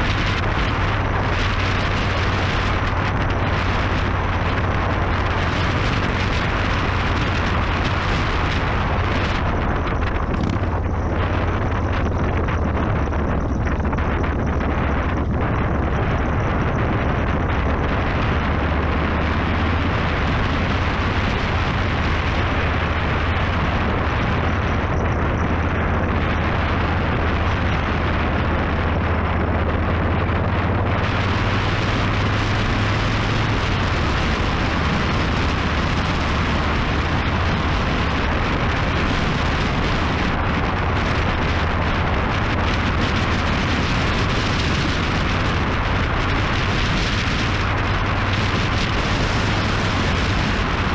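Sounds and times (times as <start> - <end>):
motorcycle engine hum: 0.0 - 50.9
wind buffeting microphone: 0.0 - 50.9.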